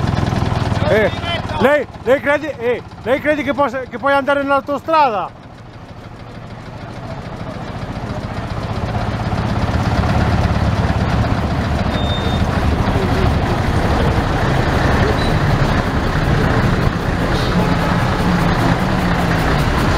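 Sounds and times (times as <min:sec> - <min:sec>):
truck engine running: 0:00.0 - 0:19.9.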